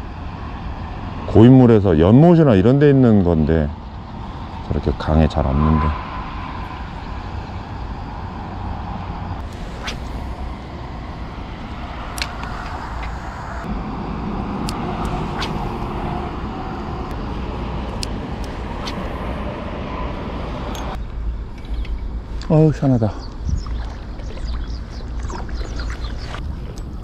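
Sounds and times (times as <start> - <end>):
road traffic: 0.0 - 23.3
wind: 0.0 - 27.0.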